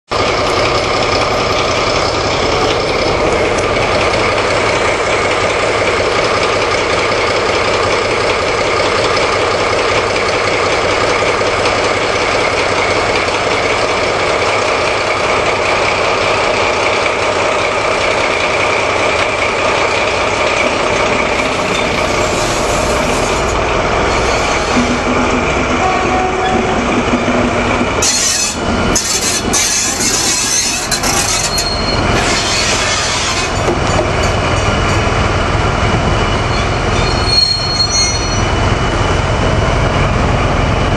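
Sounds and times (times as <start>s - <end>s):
diesel locomotive engines idling: 0.1s - 40.9s.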